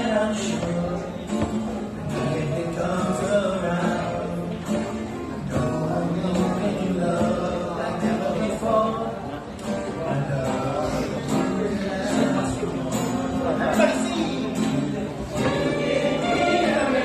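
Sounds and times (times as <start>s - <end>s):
plucked guitar: 0.0s - 17.0s.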